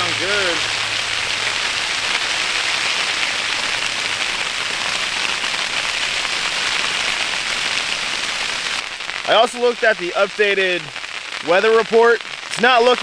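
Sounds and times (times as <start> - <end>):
ice pellets hitting tent fabric: 1.3 - 13.0.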